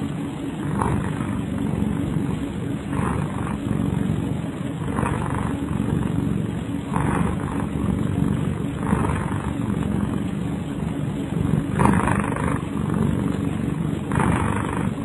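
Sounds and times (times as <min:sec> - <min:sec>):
cat snoring: 0:00.0 - 0:15.0.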